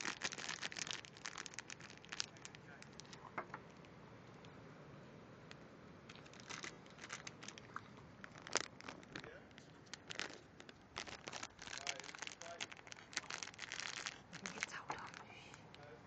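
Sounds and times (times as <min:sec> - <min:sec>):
plastic bag crinkling: 0:00.0 - 0:03.9, 0:06.1 - 0:15.8.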